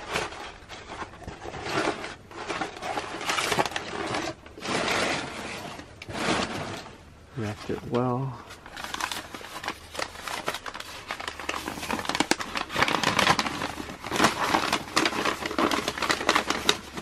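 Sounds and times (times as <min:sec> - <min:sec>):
packing paper crinkling: 0:00.0 - 0:17.0.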